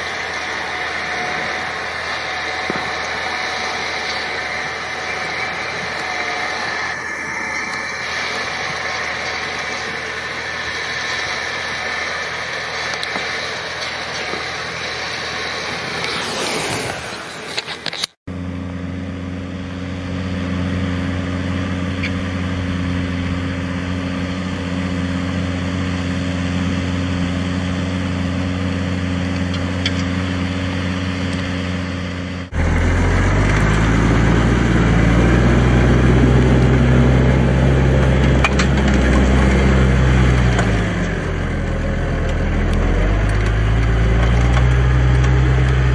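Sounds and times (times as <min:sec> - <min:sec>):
tractor engine drone: 0:00.0 - 0:45.9.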